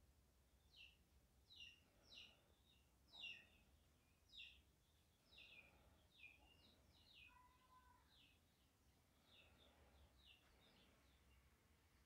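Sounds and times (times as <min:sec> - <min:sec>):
faint high bird chirps: 0:00.7 - 0:11.4.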